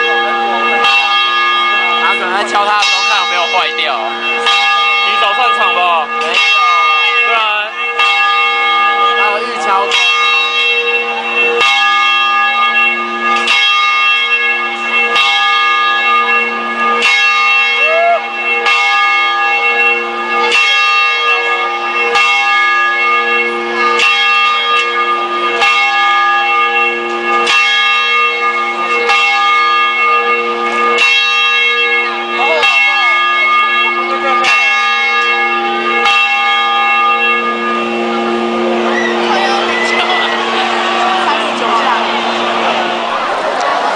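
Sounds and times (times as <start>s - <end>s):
church bell ringing: 0.0s - 43.9s.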